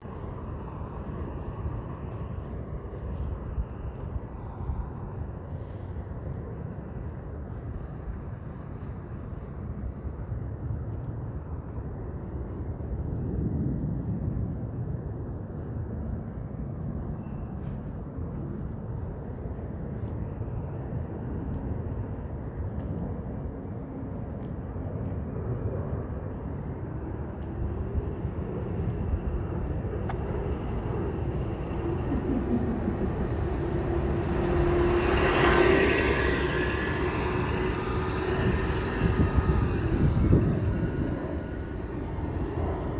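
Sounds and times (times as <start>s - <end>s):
jet engine whine: 0.0s - 42.9s
jet engines roaring: 0.0s - 42.9s.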